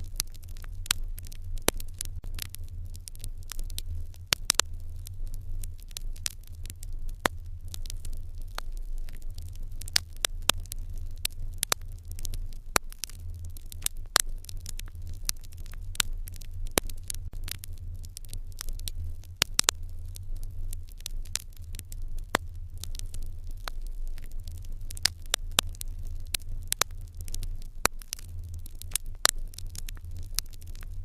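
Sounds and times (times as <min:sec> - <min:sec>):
low steady fire rumble: 0:00.0 - 0:31.0
wood fire crackling and popping: 0:00.0 - 0:31.0.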